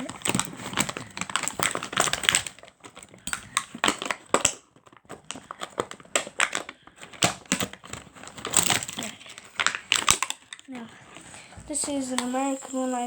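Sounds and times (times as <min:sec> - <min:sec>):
packaging crinkling: 0:00.0 - 0:12.8.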